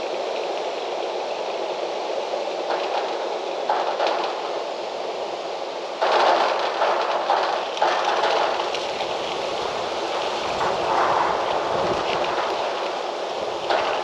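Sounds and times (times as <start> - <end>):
wind rustling through trees: 0.0 - 14.0.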